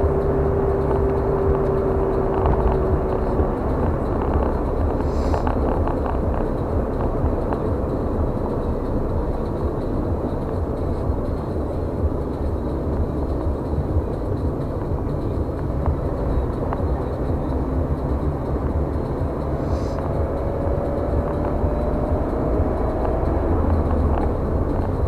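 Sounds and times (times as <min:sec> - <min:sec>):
car road noise from inside: 0:00.0 - 0:25.0
steady hum: 0:00.0 - 0:25.0.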